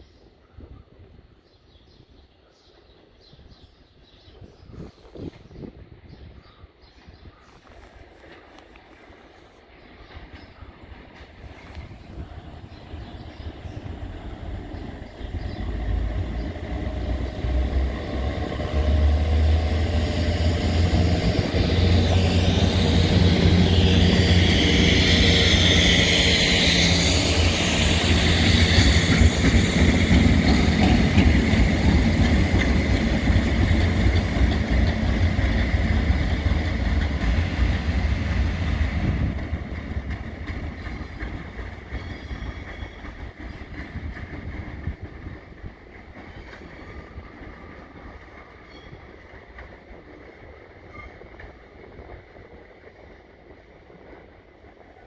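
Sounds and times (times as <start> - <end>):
wheels rumbling on rail: 2.5 - 55.0
locomotive drone: 10.9 - 55.0.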